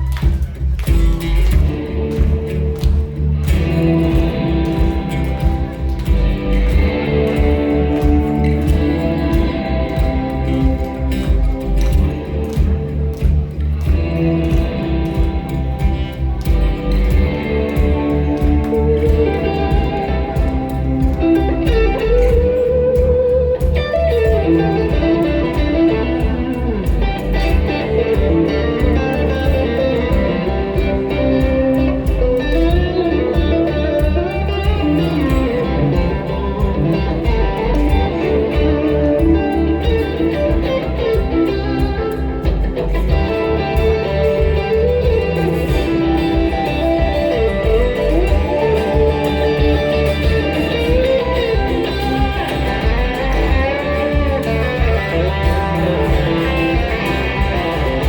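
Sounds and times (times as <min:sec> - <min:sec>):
bass guitar: 0:00.0 - 0:58.0
electric guitar lead: 0:00.0 - 0:58.0.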